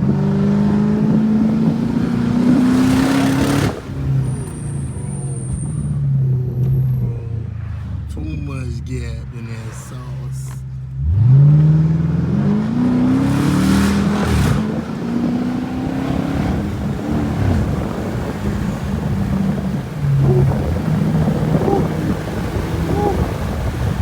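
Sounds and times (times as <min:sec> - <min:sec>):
car engine accelerating hard: 0:00.0 - 0:08.4, 0:10.0 - 0:24.0.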